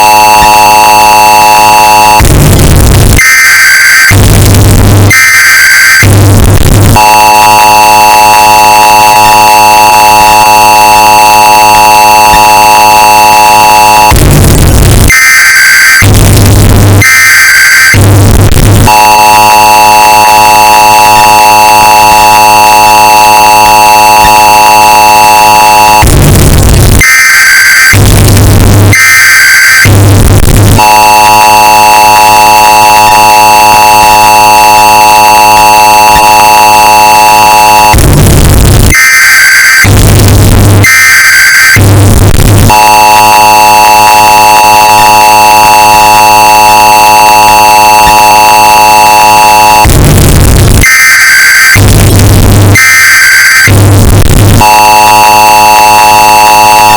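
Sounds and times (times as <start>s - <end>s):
buzzy data bursts: 0.0s - 41.8s, 42.5s - 49.9s, 50.8s - 56.9s
distorted two-tone alert signal: 0.0s - 56.9s.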